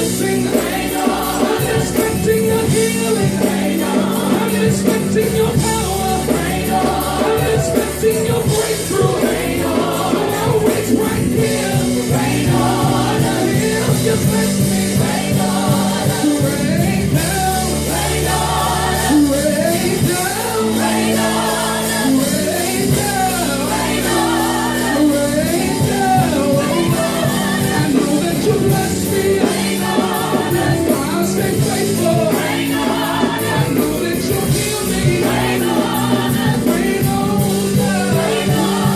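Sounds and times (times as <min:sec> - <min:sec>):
band accompaniment with bass: 0:00.0 - 0:38.9
person singing gospel: 0:00.0 - 0:38.9.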